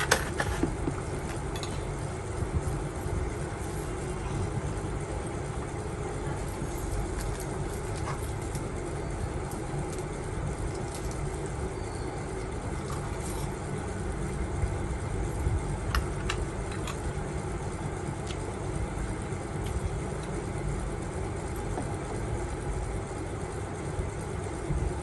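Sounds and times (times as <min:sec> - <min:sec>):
low rumbling background noise: 0:00.0 - 0:25.0.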